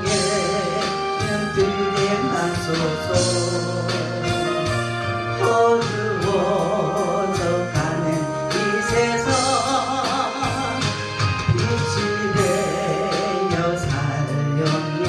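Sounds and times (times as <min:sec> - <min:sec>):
woman singing into a microphone: 0:00.0 - 0:10.9, 0:11.5 - 0:15.0
instrumental accompaniment with beat: 0:00.0 - 0:15.0.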